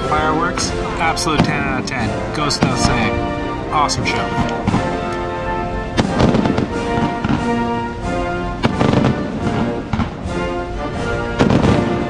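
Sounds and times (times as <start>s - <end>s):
fireworks bursting: 0.0s - 7.8s, 8.6s - 12.0s
music playing: 0.0s - 12.0s.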